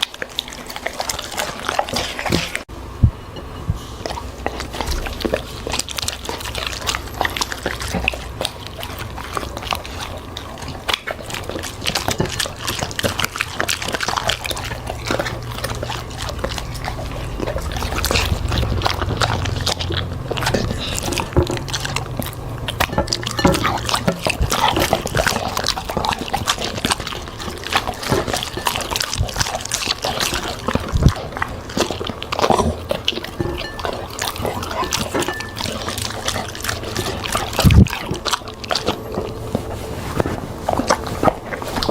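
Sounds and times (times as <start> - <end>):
dog chewing and crunching: 0.0 - 41.9.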